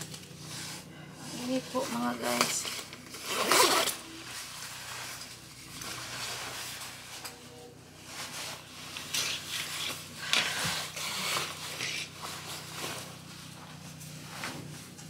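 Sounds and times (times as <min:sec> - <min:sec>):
jacket fabric rustling: 0:00.0 - 0:15.0.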